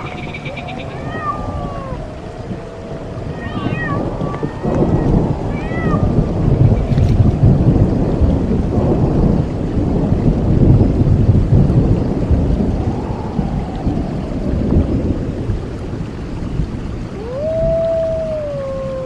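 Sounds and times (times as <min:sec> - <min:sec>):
rolling thunder: 0:00.0 - 0:19.0.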